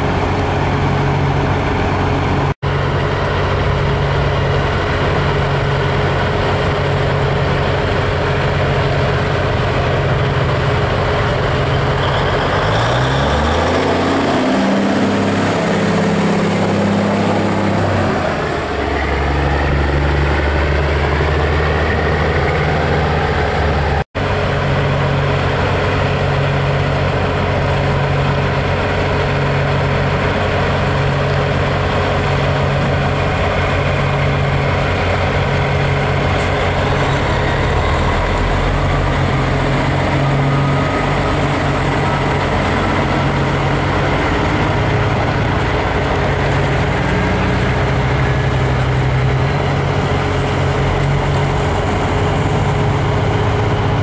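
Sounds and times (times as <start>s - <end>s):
diesel truck engines running: 0.0s - 54.0s.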